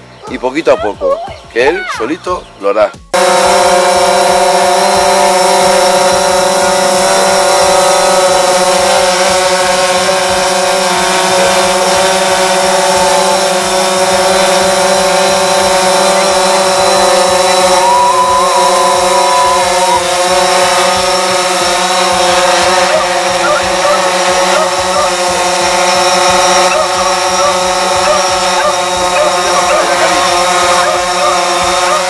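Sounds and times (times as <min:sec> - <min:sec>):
drone motors buzzing whine: 0:03.0 - 0:32.0.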